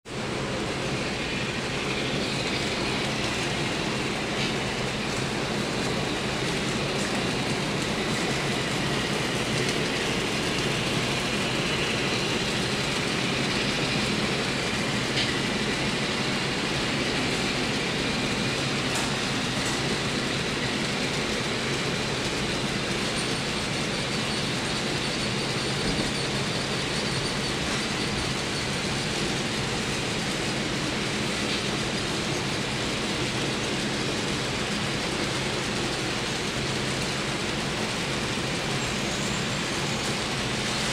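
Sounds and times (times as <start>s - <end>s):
model train running on track: 0.0s - 40.9s.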